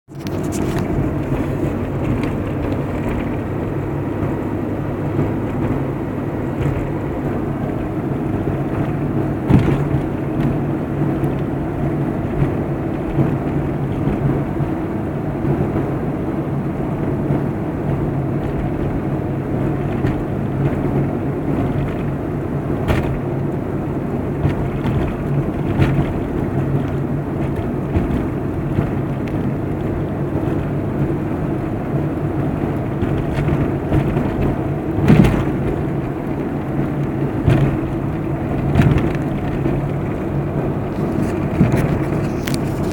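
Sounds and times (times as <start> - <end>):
car engine humming: 0.1 - 42.9
engine knocks: 0.1 - 42.9.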